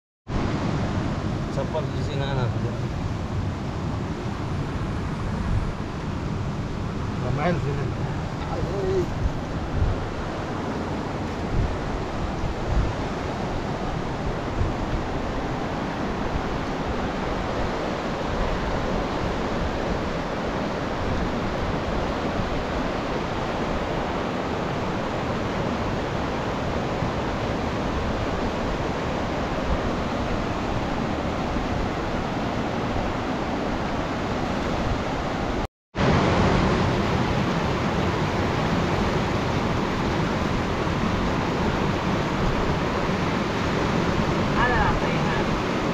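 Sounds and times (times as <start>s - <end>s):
river rushing over boulders: 0.3s - 45.9s.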